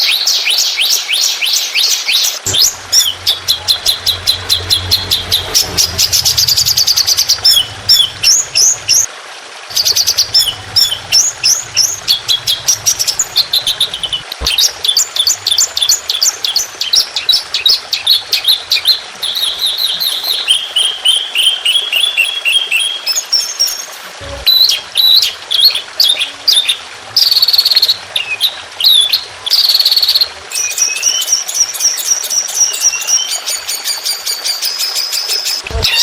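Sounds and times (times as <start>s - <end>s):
songbird chirps and trills: 0.0s - 9.1s, 9.7s - 36.0s.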